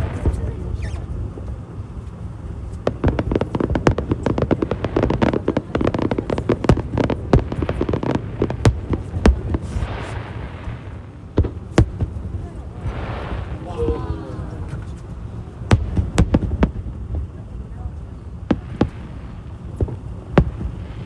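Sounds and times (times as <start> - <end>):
fireworks cracks and bangs: 0.0 - 21.0.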